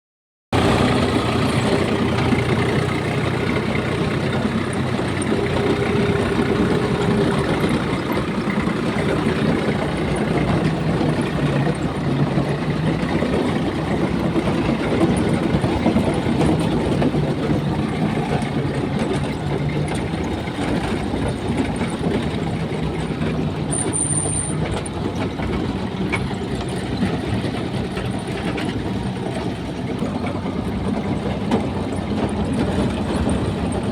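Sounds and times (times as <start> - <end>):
diesel tractor engine running: 0.5 - 33.9.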